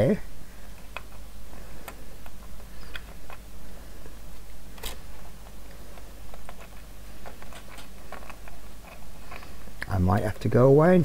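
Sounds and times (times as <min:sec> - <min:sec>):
steady low hum: 0:00.0 - 0:11.0
plastic parts clicking and tapping: 0:00.7 - 0:01.2, 0:01.8 - 0:10.6.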